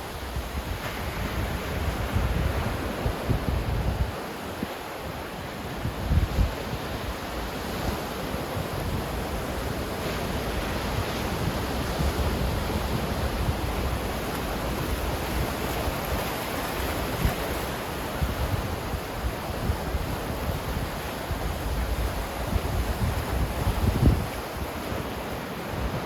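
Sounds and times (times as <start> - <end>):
ocean surf washing: 0.0 - 26.0
wind buffeting microphone: 0.1 - 4.8, 5.8 - 26.0.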